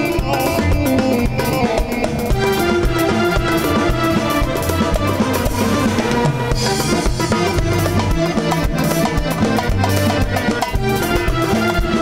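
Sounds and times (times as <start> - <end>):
bass guitar: 0.0 - 12.0
drum kit beat: 0.0 - 12.0
electric guitars: 0.0 - 12.0.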